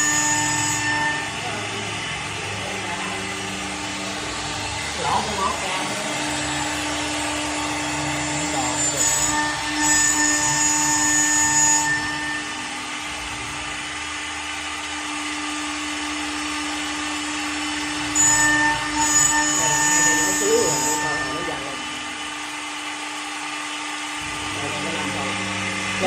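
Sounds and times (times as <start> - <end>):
high machine whine: 0.0 - 26.0
machine humming: 0.0 - 26.0.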